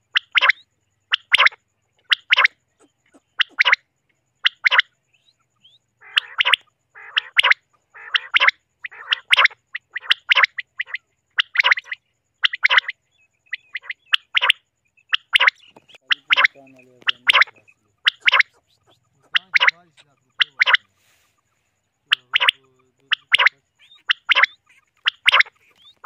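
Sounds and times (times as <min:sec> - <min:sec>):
quail calling: 0:00.0 - 0:26.0
soft raspy bird notes: 0:00.0 - 0:26.0.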